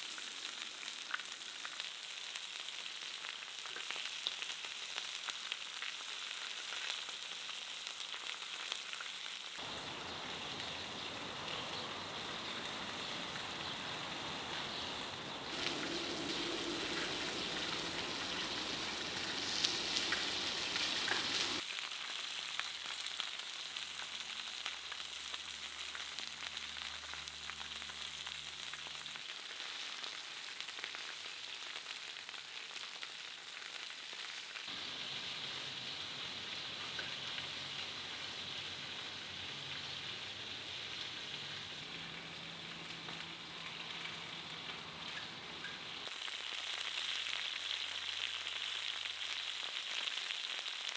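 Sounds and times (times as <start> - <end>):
food sizzling in a pan: 0.0 - 11.1, 12.0 - 50.9.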